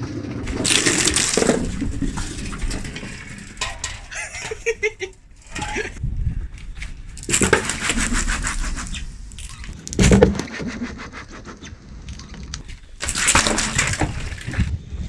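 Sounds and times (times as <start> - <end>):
car tyre crushing objects: 0.3 - 10.7, 12.0 - 14.7.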